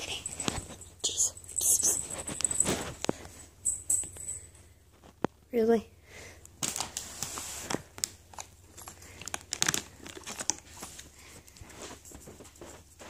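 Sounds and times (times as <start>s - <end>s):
toy crinkling and rustling: 0.0s - 4.3s, 6.6s - 13.0s.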